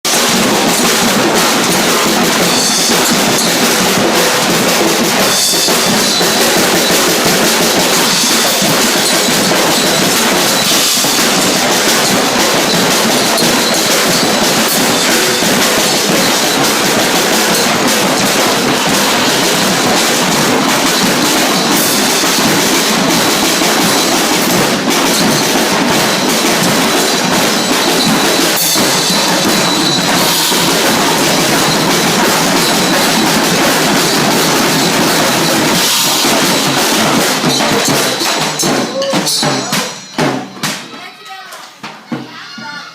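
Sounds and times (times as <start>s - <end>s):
drums and percussion music: 0.0s - 42.9s.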